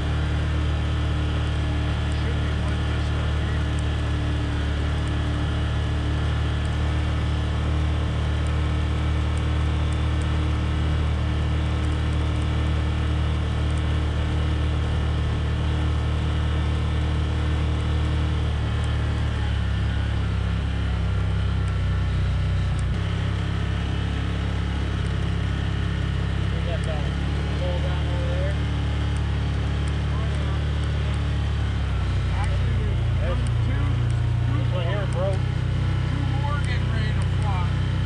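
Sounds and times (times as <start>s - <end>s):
utility vehicle engine drone: 0.0s - 38.0s.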